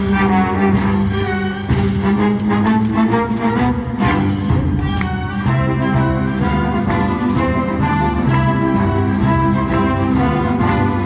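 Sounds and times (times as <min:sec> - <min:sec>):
string section: 0:00.0 - 0:11.0
symphony orchestra playing: 0:00.0 - 0:11.0.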